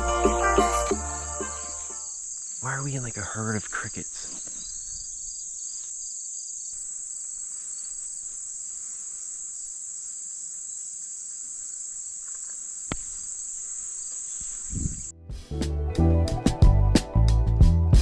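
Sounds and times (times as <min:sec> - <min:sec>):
crickets trilling: 0:00.0 - 0:15.1.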